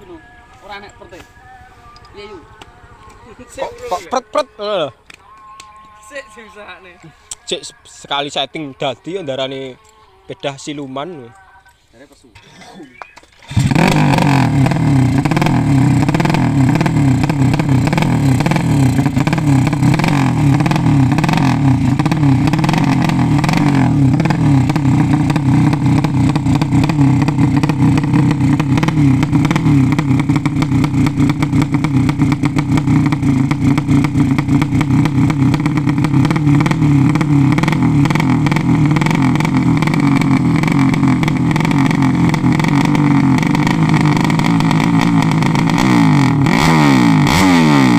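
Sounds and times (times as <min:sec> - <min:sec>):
motorcycle engine running: 0:00.0 - 0:04.0, 0:13.4 - 0:47.9.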